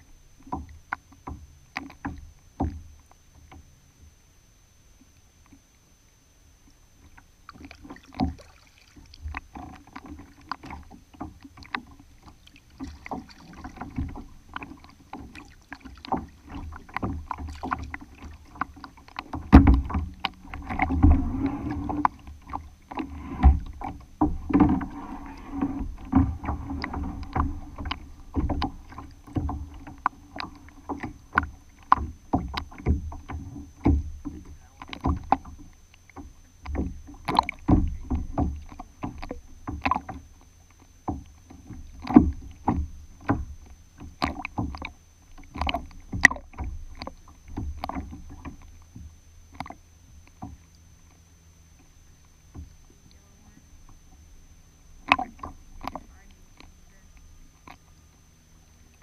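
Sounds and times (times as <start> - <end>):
water lapping against a hull: 0.0 - 59.0.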